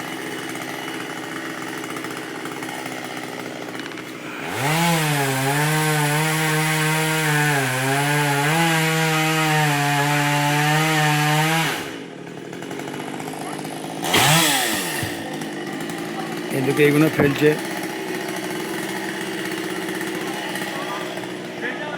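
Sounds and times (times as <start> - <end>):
chainsaw cutting wood: 0.0 - 21.9.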